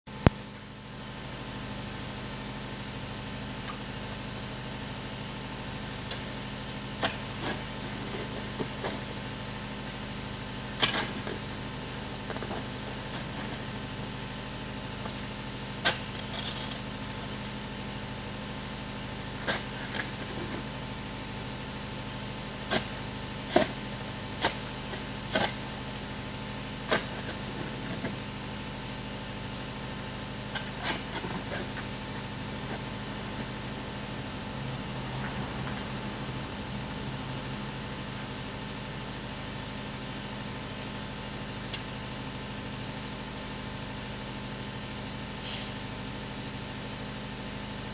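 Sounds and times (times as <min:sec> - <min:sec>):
low mechanical hum: 0:00.1 - 0:47.9.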